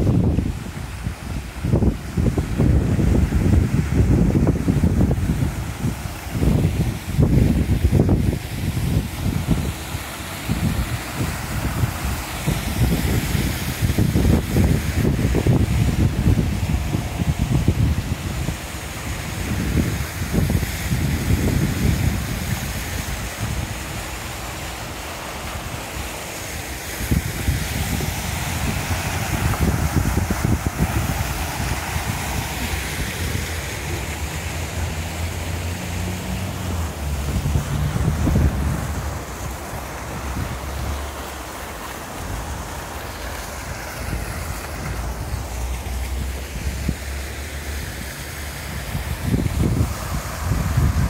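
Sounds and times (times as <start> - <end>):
fountain splashing onto water: 0.0 - 51.0
wind buffeting microphone: 0.0 - 51.0.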